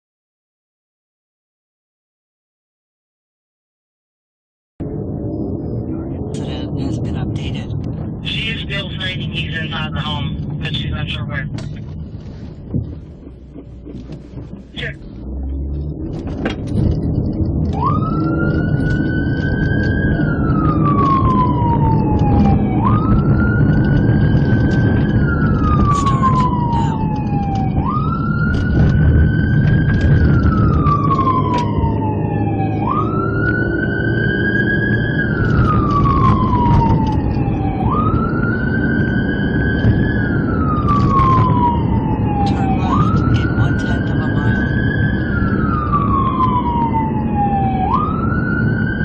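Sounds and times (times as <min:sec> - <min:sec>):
police siren wailing: 0:04.8 - 0:11.5, 0:13.4 - 0:49.0
car engine and road noise: 0:04.8 - 0:49.0.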